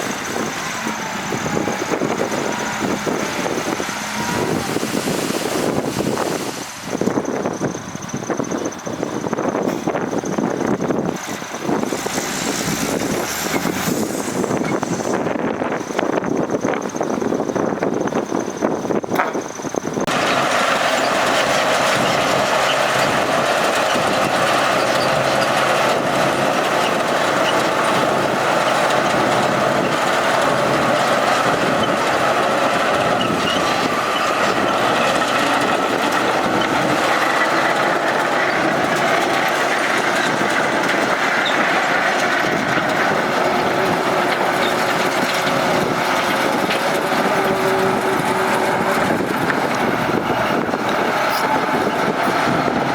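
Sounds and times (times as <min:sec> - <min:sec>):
diesel earthmoving machinery running: 0:00.0 - 0:52.9.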